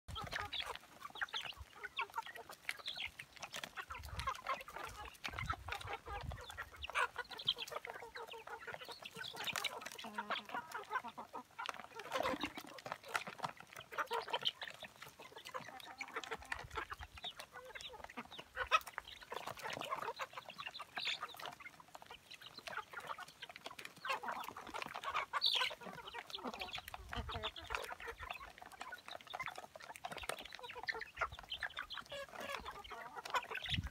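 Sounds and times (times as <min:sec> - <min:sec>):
young chickens clucking: 0:00.1 - 0:33.9.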